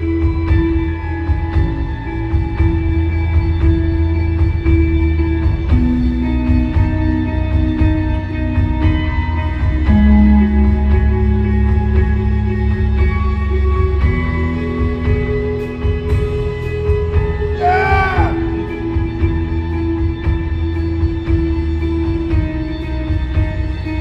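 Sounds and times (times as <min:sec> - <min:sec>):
steady low bass: 0:00.0 - 0:24.0.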